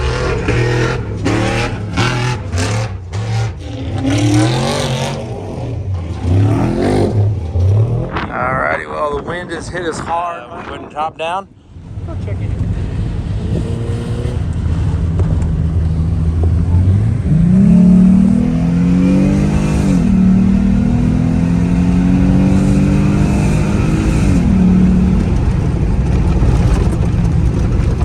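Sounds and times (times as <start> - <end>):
truck engine accelerating: 0.0 - 10.7, 11.6 - 28.0.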